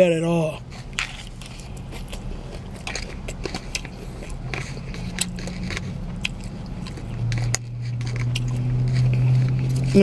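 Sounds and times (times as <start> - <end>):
chewing crisp salad: 0.6 - 10.0.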